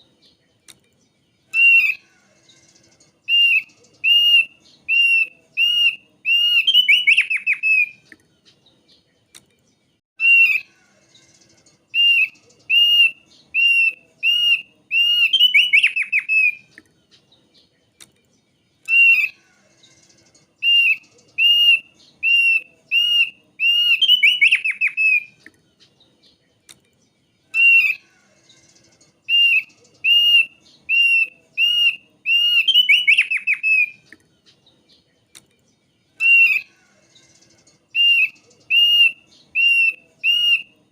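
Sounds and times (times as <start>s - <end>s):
bird singing whistled notes and trill: 0.0s - 40.9s.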